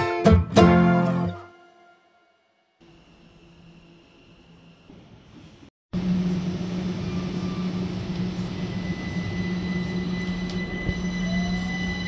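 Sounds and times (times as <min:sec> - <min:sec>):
electric train hum and whine: 0:01.7 - 0:12.0.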